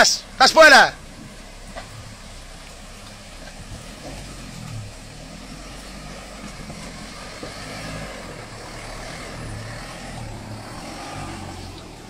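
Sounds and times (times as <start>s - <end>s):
car engine at low revs: 0.0s - 12.0s
stream water rushing: 0.0s - 12.0s.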